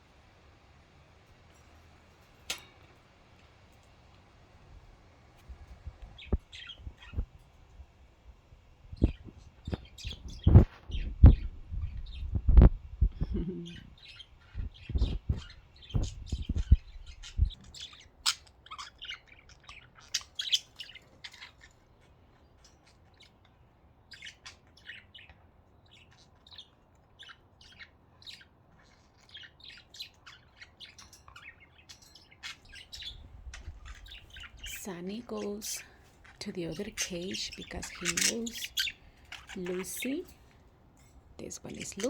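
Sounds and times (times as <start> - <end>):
budgerigars chirping and chattering: 5.5 - 7.6, 8.8 - 12.4, 13.1 - 40.7, 41.4 - 42.0.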